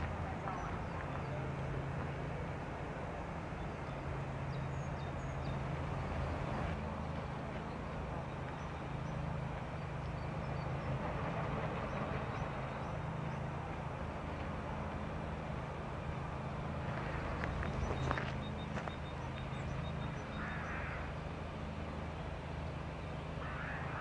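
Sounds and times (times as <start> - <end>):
distant traffic hum: 0.0 - 24.0.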